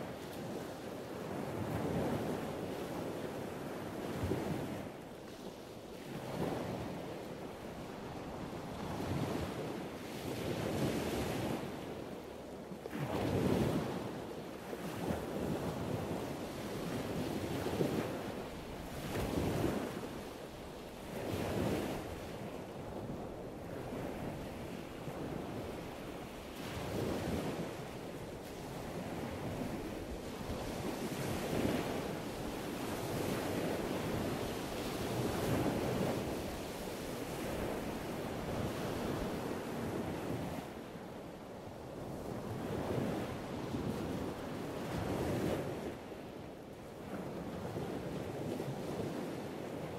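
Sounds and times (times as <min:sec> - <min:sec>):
wind: 0:00.0 - 0:49.9.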